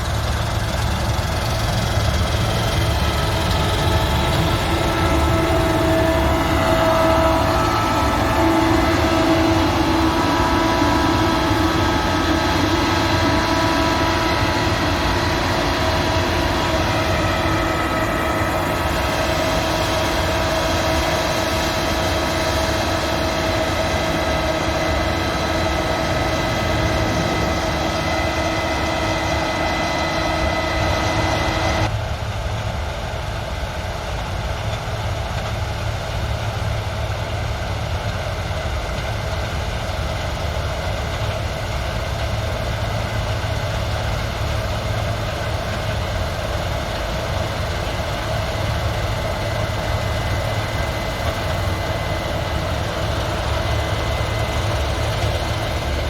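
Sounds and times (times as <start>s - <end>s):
machine whining tones: 0.0s - 32.0s, 38.6s - 56.0s
combine harvester running: 0.0s - 56.0s.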